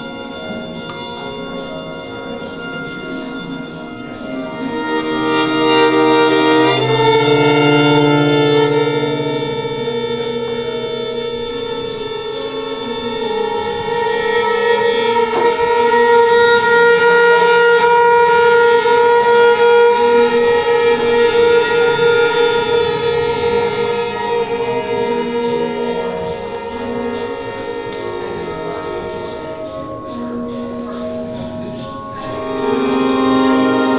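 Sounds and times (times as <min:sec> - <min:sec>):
string quartet playing: 0:00.0 - 0:33.9.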